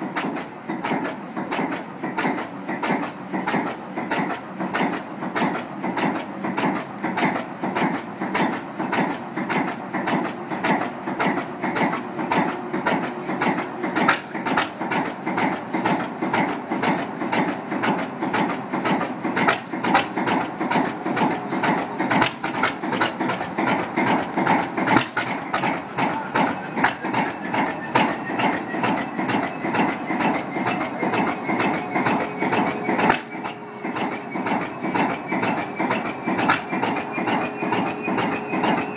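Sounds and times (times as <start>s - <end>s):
diesel locomotive engine idling: 0.0s - 38.9s.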